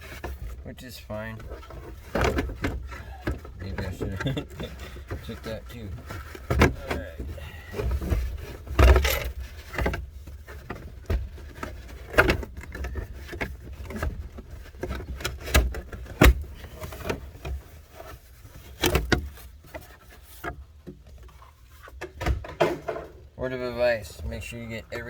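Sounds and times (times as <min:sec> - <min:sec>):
knocks and scraping of trim parts: 0:00.0 - 0:25.0.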